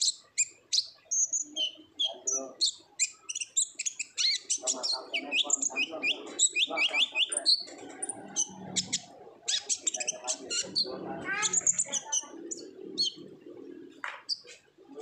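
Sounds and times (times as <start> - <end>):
sunbird singing chattering song: 0.0 - 13.3
low busy background sound: 0.0 - 15.0.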